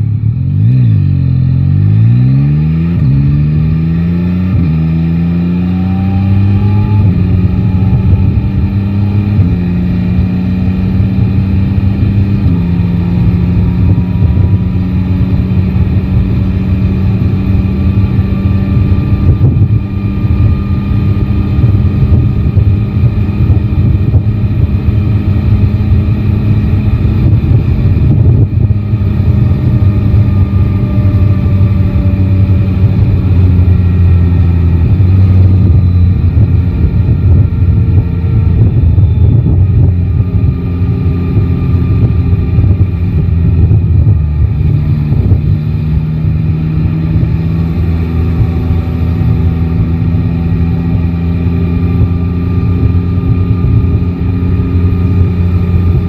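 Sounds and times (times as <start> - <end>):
motorcycle engine accelerating: 0.0 - 56.0
wind rushing over microphone: 0.0 - 56.0.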